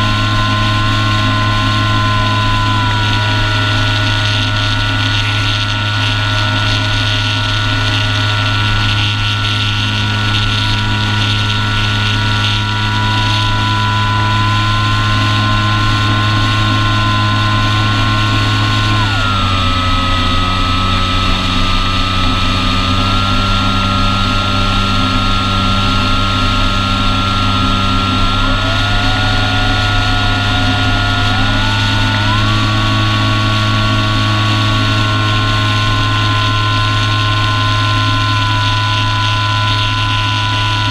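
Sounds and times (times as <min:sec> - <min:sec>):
model airplane motor whine: 0:00.0 - 0:40.9.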